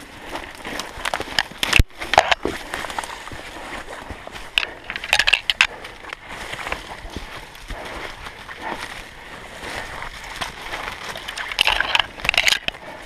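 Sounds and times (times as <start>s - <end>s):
footsteps crunching dry leaves: 0.0s - 4.8s, 5.6s - 13.0s
branches brushing against clothing: 0.0s - 13.0s.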